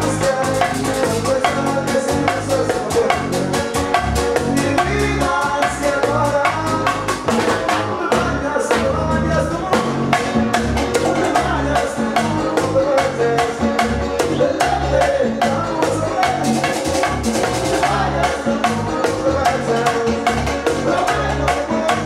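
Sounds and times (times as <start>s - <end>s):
fast percussion strikes: 0.0s - 22.0s
pulsing bass line: 0.0s - 22.0s.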